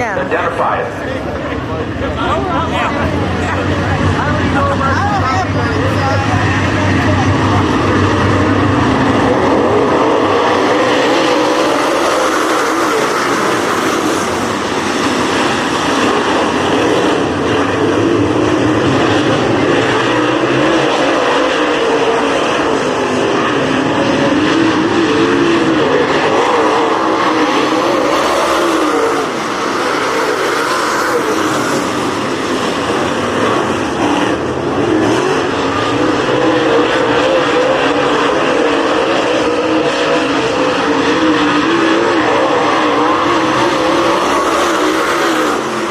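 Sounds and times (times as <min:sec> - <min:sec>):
race car engines passing: 0:00.0 - 0:45.9.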